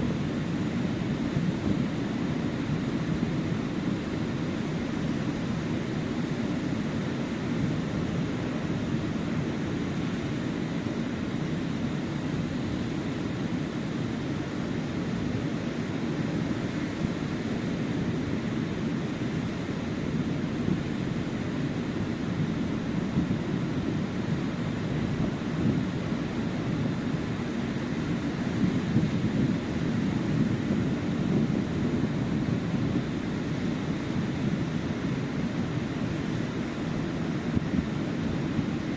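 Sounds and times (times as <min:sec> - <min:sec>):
waves washing onto beach: 0:00.0 - 0:38.9
wind rumbling on microphone: 0:00.0 - 0:38.9.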